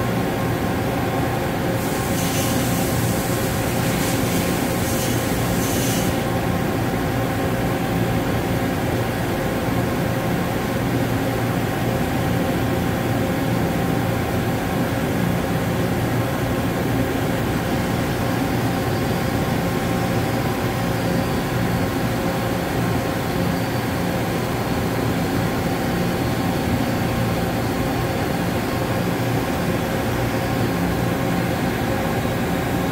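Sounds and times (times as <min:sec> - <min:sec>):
machine mechanical hum: 0:00.0 - 0:32.9.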